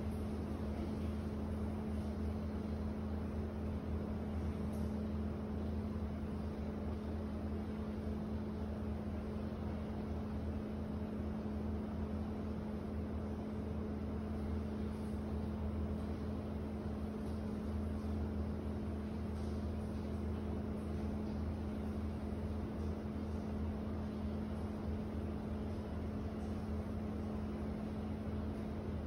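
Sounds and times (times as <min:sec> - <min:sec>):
constant machine hum: 0:00.0 - 0:29.0.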